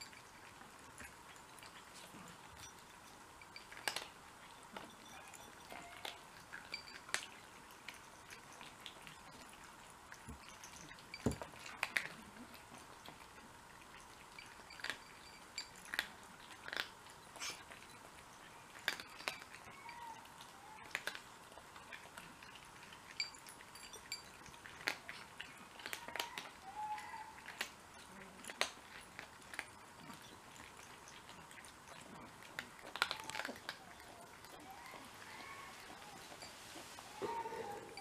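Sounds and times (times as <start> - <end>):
cats crunching dry food: 0.0 - 38.0.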